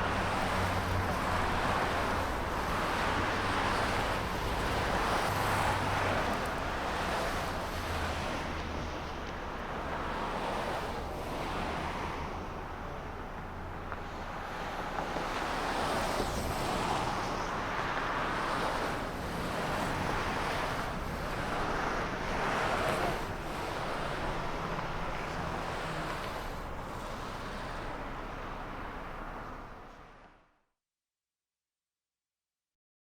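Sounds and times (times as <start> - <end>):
cars passing by: 0.0 - 30.4.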